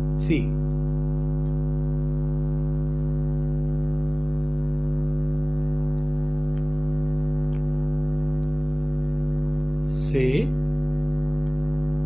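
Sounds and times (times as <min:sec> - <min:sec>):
low hum of held tones: 0:00.0 - 0:12.0.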